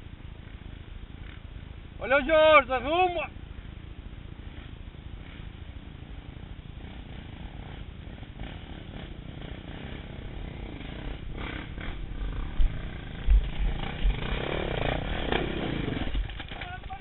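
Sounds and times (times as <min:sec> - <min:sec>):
dirt bike engines rumbling: 0:00.0 - 0:17.0
distant dirt bikes climbing: 0:00.0 - 0:17.0.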